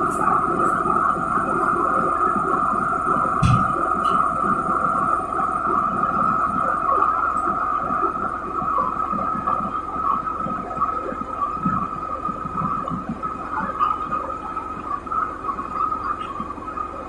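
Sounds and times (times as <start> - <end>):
workshop machinery droning hum: 0.0 - 17.0.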